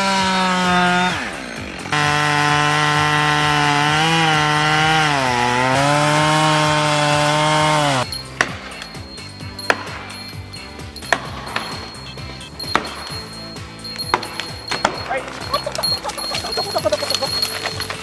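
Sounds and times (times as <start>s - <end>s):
chainsaw cutting a tree: 0.0s - 18.0s.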